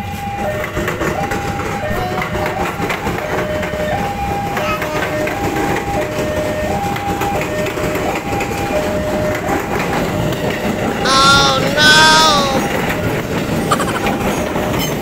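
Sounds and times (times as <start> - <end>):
train wheels rumbling on rails: 0.0 - 11.0, 12.6 - 15.0.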